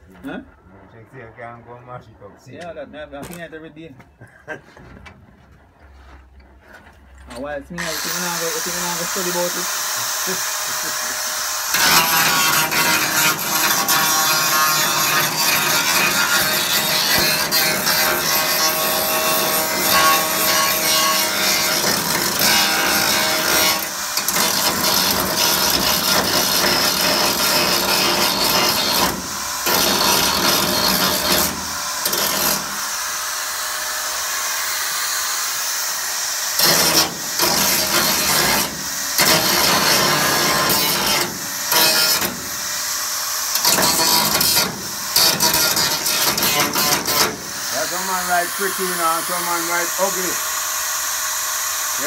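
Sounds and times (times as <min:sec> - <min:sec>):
welding torch rushing: 0:07.8 - 0:52.0.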